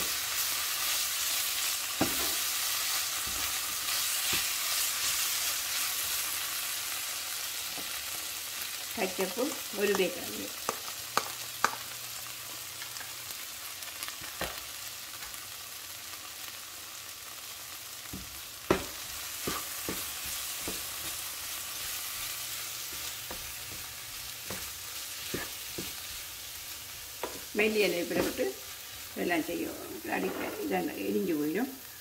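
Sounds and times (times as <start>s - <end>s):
vegetables sizzling in a frying pan: 0.0s - 32.0s.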